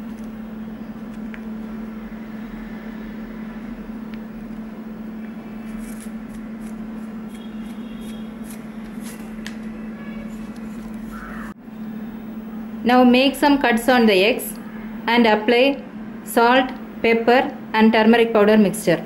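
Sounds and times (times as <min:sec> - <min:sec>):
low electrical motor hum: 0:00.0 - 0:19.0.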